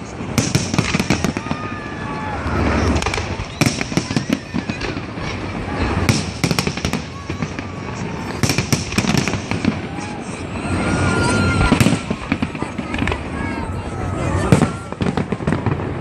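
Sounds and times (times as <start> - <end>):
fireworks crackling: 0.0 - 16.0
fireworks low booms: 0.0 - 16.0.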